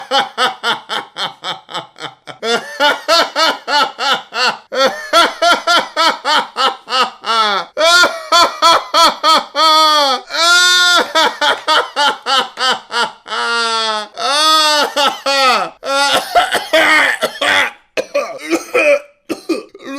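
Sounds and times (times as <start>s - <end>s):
person laughing hard: 0.0s - 19.9s.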